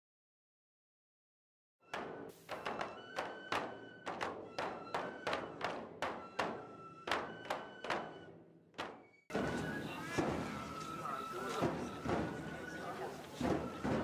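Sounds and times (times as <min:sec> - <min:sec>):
taiko drums: 0:01.9 - 0:14.0.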